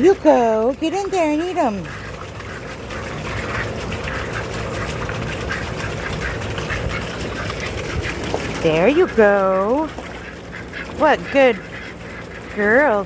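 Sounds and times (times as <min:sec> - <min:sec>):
ducks dabbling in water: 0:00.0 - 0:13.0.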